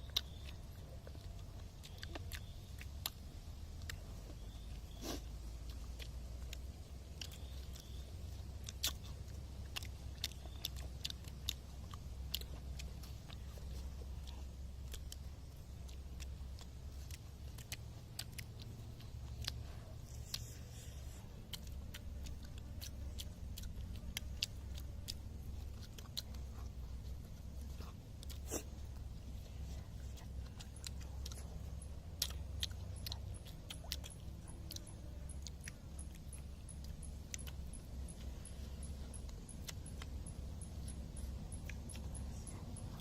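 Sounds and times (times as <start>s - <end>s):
fish being bitten and chewed: 0.0s - 43.0s
low steady rumble: 0.0s - 43.0s.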